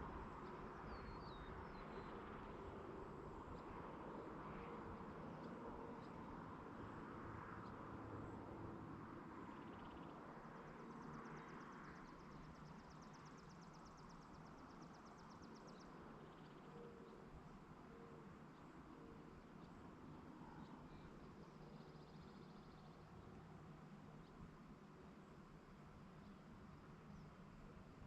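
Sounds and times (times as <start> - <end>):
faint evening countryside ambience: 0.0 - 28.0.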